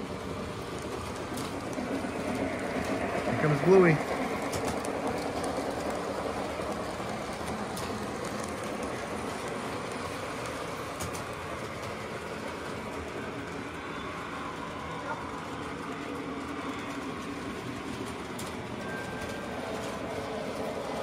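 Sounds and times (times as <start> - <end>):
model train rumbling on track: 0.0 - 21.0.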